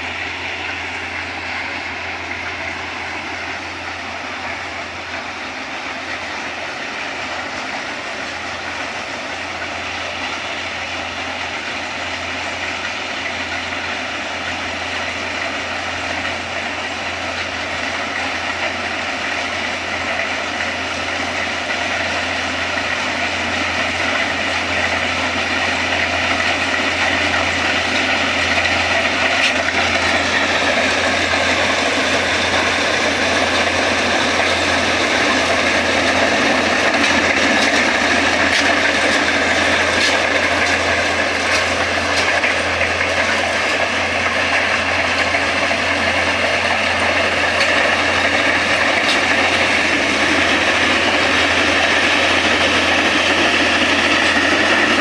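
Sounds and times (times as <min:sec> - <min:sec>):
combine harvester engine hum: 0:00.0 - 0:55.0
harvesting machinery clatter: 0:00.0 - 0:55.0.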